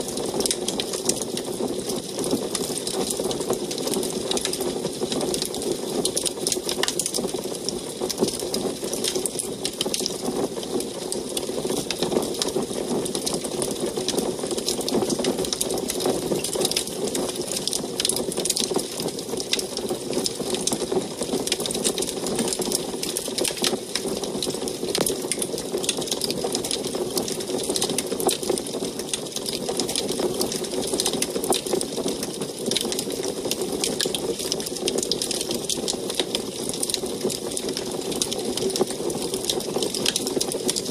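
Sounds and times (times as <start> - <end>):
wood fire crackling in stove: 0.1 - 40.9.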